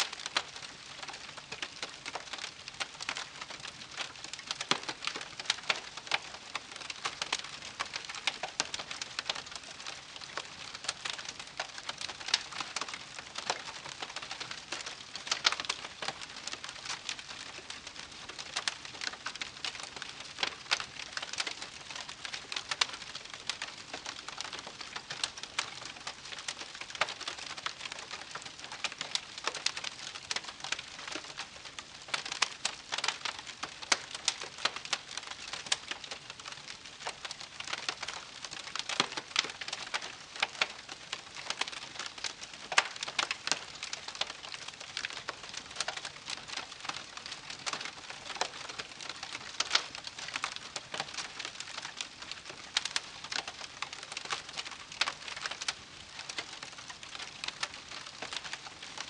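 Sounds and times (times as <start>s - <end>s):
campfire crackling and popping: 0.0s - 59.0s
soft steady hiss: 0.0s - 59.0s.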